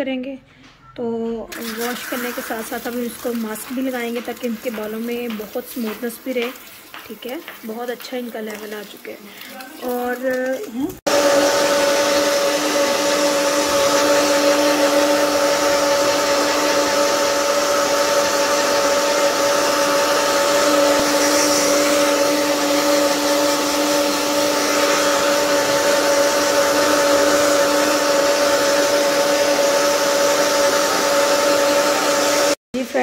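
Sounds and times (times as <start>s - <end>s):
hair dryer running: 1.6s - 9.6s, 11.0s - 32.6s.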